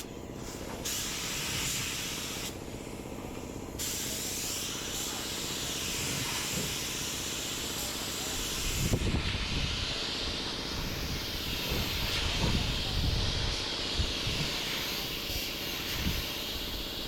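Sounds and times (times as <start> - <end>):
compressed air hissing: 0.0 - 3.1, 3.7 - 17.0.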